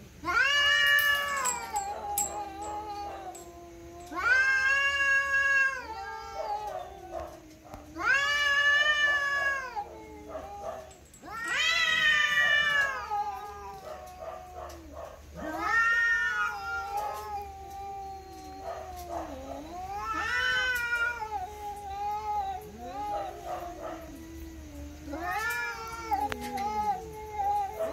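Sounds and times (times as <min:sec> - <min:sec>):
cats caterwauling: 0:00.0 - 0:27.9.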